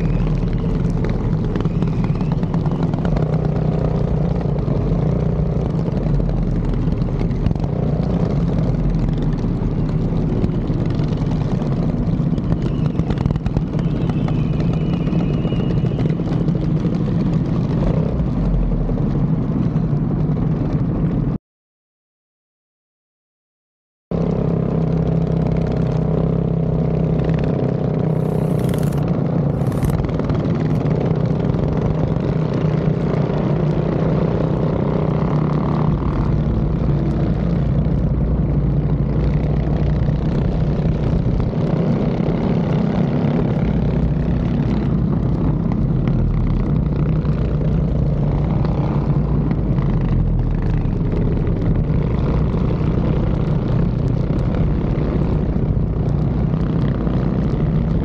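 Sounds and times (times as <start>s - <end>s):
mini bike engines droning: 0.0s - 20.9s, 24.2s - 58.0s.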